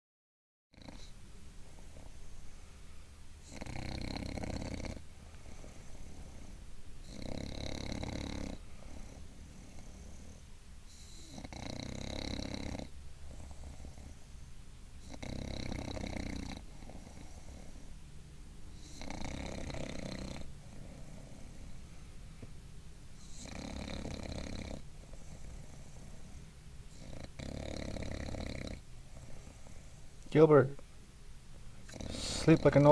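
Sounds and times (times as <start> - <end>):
dog snoring: 0.7 - 2.7, 3.4 - 14.3, 15.0 - 18.0, 18.7 - 22.5, 23.2 - 30.2, 31.8 - 32.9.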